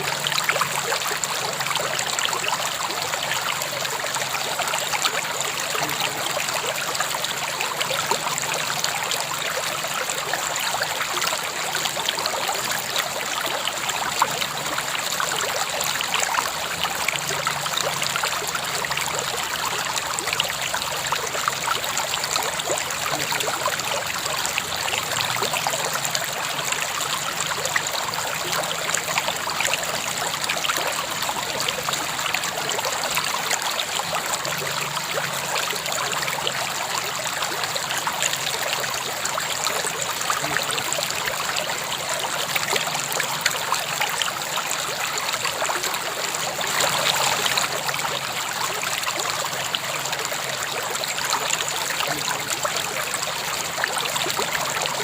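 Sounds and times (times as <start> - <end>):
river water flowing over stones: 0.0 - 55.0.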